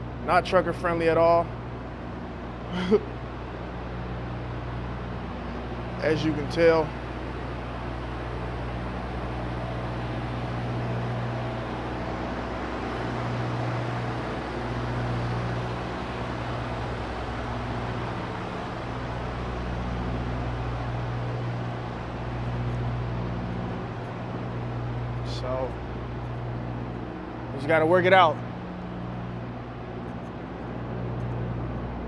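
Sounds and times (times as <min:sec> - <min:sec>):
diesel truck engine idling: 0:00.1 - 0:32.0.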